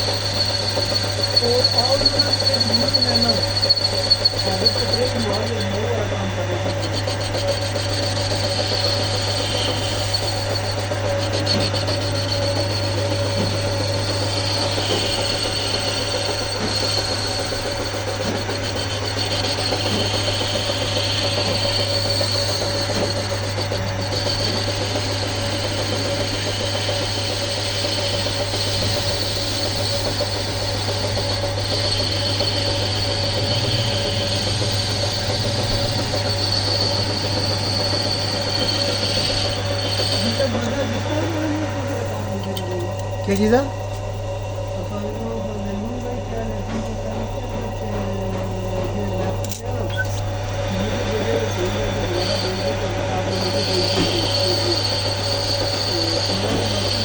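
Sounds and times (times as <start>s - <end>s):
machine tool hum and whine: 0.0s - 57.0s.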